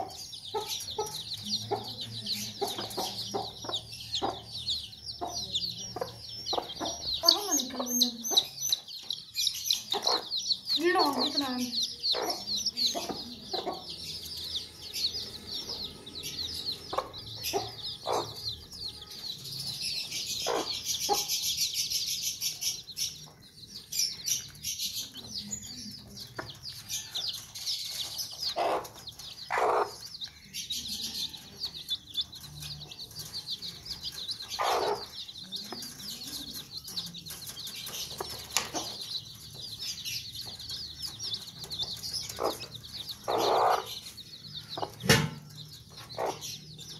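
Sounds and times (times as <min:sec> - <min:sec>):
hen clucking: 0:00.0 - 0:19.4, 0:20.0 - 0:21.8, 0:24.4 - 0:46.9
chicks peeping: 0:00.0 - 0:46.9.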